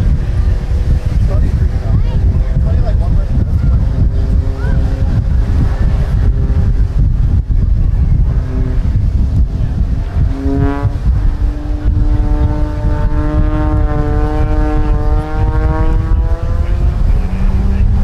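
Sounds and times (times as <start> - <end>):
propeller plane engine buzzing: 0.0 - 18.0
wind buffeting microphone: 0.0 - 18.0.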